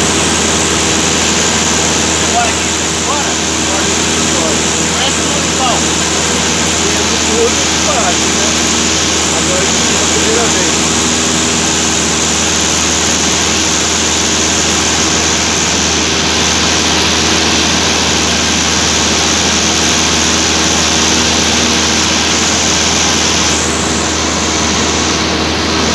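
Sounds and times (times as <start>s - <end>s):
plane engine drone in cabin: 0.0s - 25.9s.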